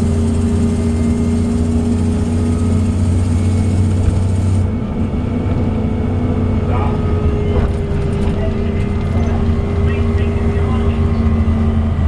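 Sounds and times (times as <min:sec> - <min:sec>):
bus engine drone: 0:00.0 - 0:12.0
constant whine: 0:00.0 - 0:12.0.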